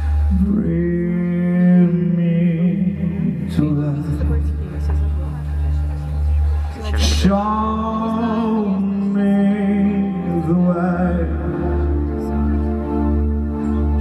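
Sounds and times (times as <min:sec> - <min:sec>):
pulsing bass backing: 0:00.0 - 0:14.0.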